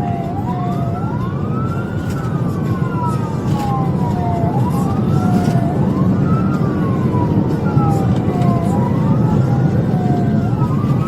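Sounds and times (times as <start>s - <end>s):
police siren wailing: 0.0s - 11.0s
road and wind noise: 0.0s - 11.0s.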